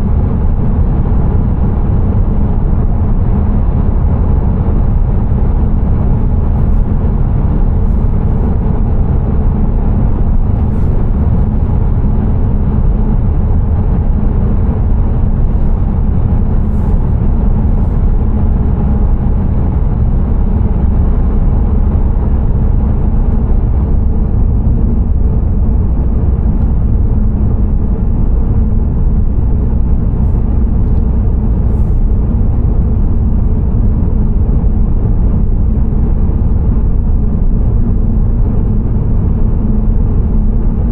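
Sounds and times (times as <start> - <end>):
car tyres and engine rumbling: 0.0 - 40.9.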